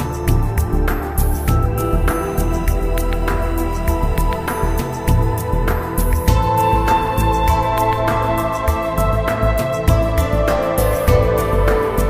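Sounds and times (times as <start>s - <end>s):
calm new-age music: 0.0s - 12.0s.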